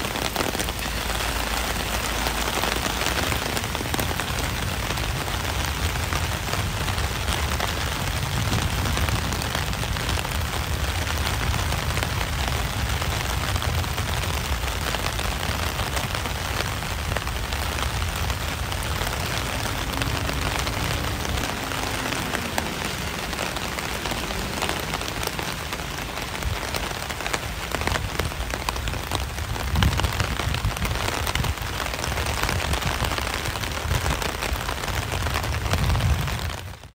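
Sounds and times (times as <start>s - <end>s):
constant low rumble: 0.0s - 36.8s
rain-like patter: 0.0s - 36.9s.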